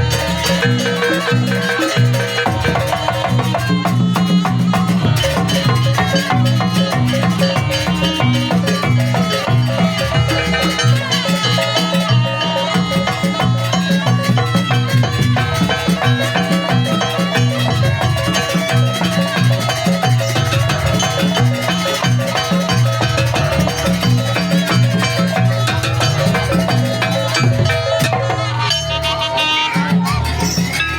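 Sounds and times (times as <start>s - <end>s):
percussion ensemble with gongs: 0.0s - 30.9s.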